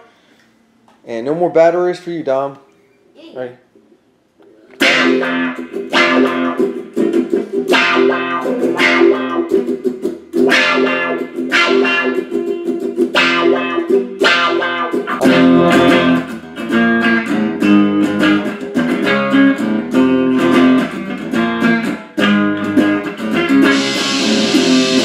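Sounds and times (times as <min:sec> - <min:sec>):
electric guitar notes and chords: 0:04.8 - 0:25.0.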